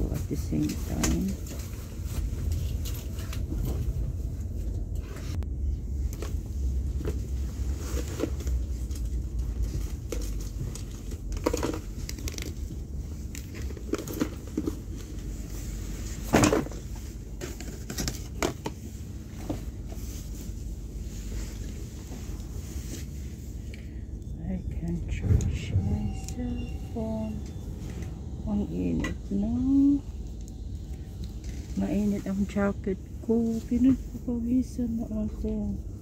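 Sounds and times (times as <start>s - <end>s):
train carriage rumble: 0.0s - 36.0s.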